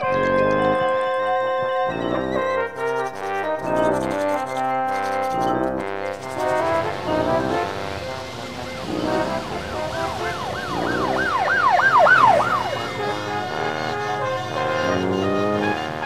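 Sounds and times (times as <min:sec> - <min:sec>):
brass background music: 0:00.0 - 0:16.0
siren yelping: 0:00.0 - 0:16.0.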